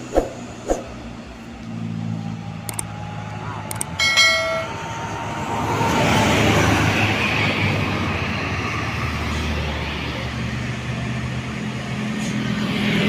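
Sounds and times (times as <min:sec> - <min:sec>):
diesel vehicle passing: 0:00.0 - 0:13.0
low engine hum: 0:00.0 - 0:13.0
tyre and road noise: 0:00.0 - 0:13.0.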